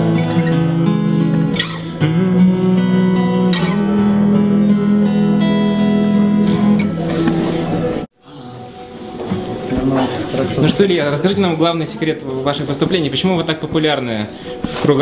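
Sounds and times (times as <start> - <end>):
acoustic guitar strummed chords: 0.0 - 12.3.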